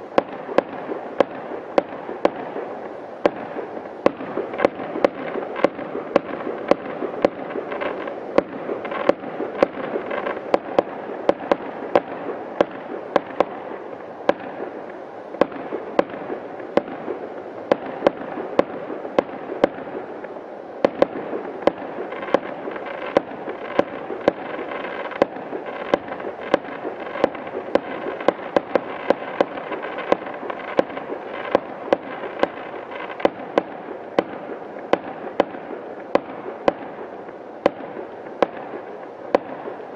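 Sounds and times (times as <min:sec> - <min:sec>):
din of fireworks: 0:00.0 - 0:39.9
fireworks bangs: 0:00.0 - 0:39.9.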